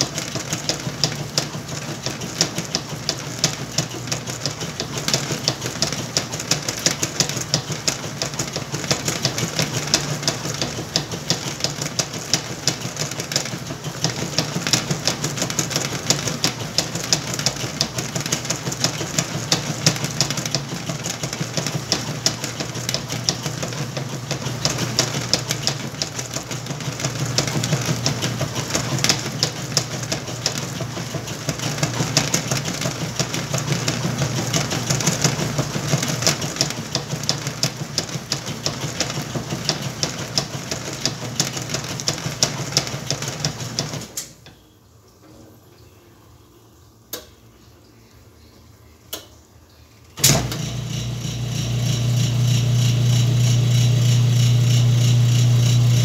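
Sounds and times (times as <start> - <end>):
washing machine motor hum: 0.0 - 44.2, 50.2 - 56.0.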